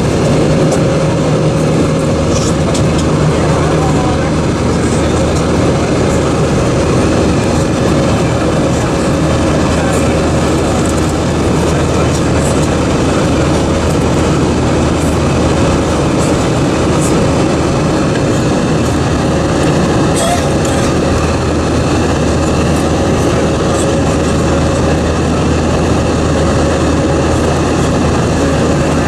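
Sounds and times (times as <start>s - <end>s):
airflow and engine drone: 0.0s - 29.0s.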